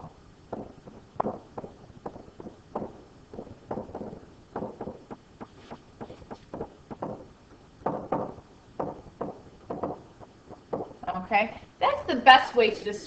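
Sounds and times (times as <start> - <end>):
stylus tapping on tablet screen: 0.5 - 11.1.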